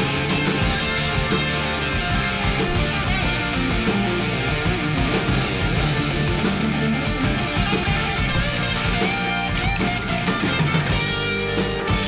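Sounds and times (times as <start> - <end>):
drum beat: 0.0 - 12.0
electric guitar: 0.0 - 12.0
rock music: 0.0 - 12.0.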